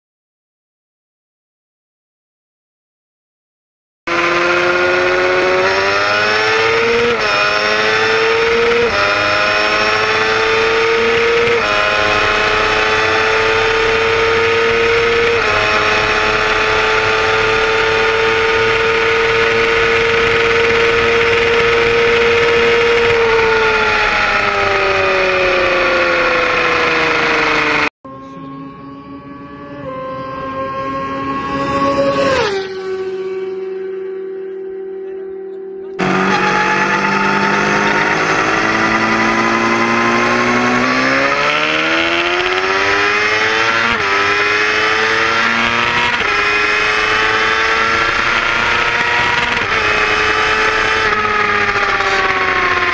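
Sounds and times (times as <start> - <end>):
motorcycle engine revving: 4.1 - 52.9
passing motorcycle engine: 4.1 - 52.9.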